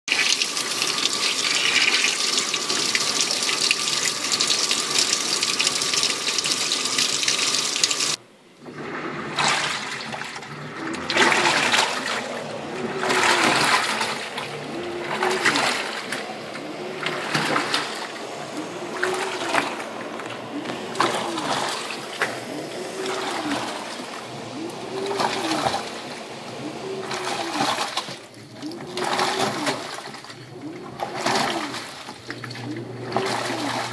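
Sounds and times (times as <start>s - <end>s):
washing machine drum sloshing: 0.1s - 33.9s
water pouring into washing machine: 0.1s - 33.9s.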